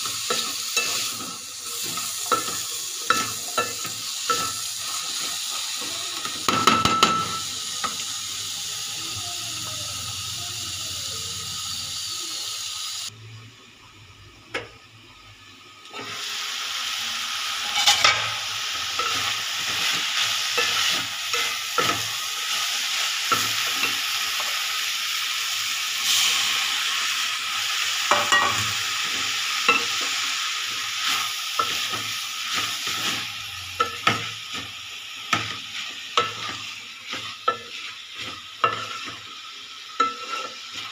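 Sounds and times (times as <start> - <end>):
beans frying in oil: 0.0 - 40.9.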